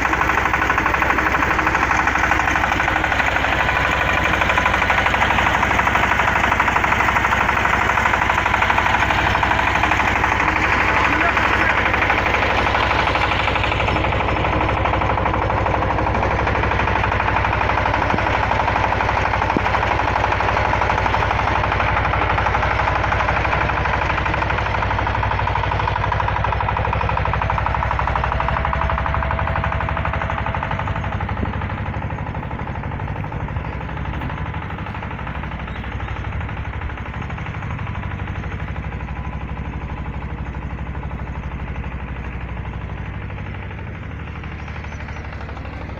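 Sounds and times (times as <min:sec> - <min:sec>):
drilling rig mechanical clatter: 0:00.0 - 0:45.9
low engine hum: 0:00.0 - 0:45.9.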